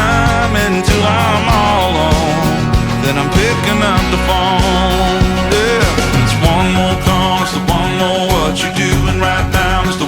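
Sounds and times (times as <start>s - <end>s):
instrumental country-rock music: 0.0s - 10.0s.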